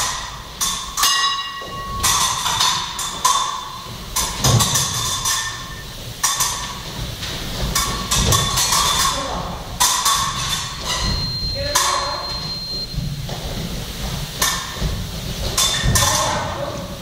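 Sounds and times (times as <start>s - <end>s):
fencing blades clashing: 0.0s - 12.5s, 14.3s - 17.0s.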